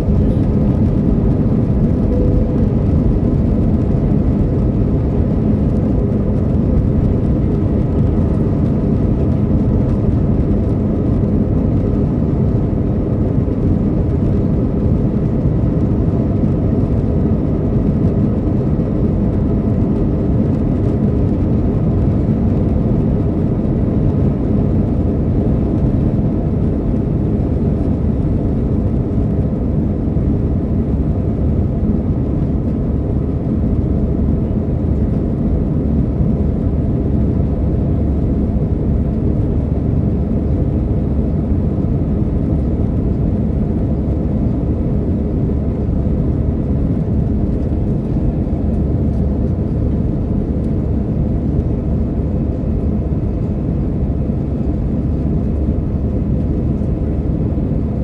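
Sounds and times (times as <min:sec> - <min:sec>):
jet cabin engine drone: 0:00.0 - 0:58.0.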